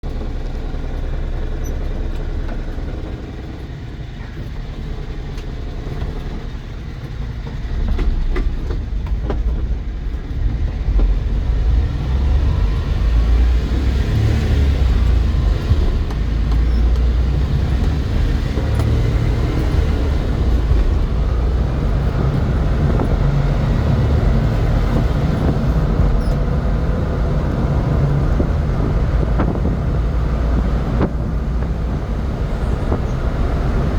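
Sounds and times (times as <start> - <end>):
road and wind noise: 0.0 - 33.9
truck engine running: 0.0 - 33.9.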